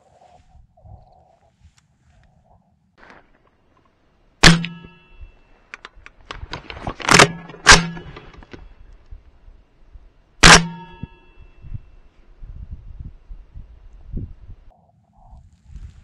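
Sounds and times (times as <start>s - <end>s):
ringing hum from scope: 0.8s - 14.7s.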